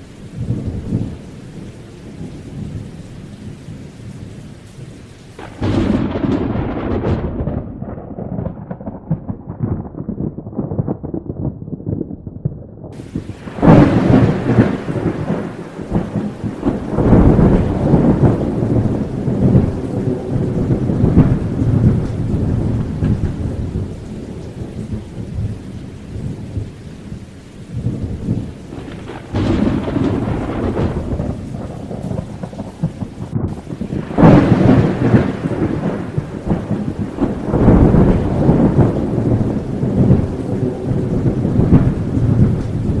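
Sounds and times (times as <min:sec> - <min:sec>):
steady rain: 0:00.0 - 0:43.0
rumbling thunder: 0:00.3 - 0:03.9, 0:05.4 - 0:43.0.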